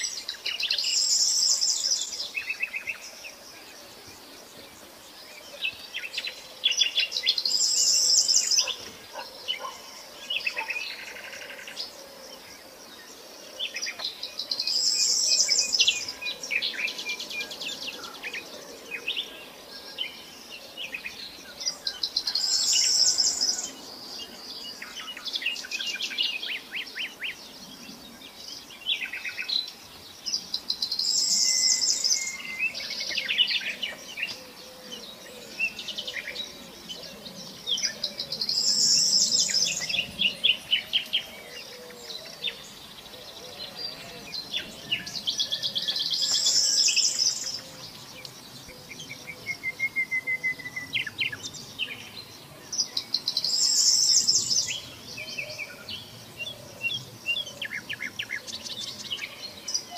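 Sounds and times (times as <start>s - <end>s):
songbird trilling and chirping: 0.0s - 11.9s, 13.7s - 59.9s.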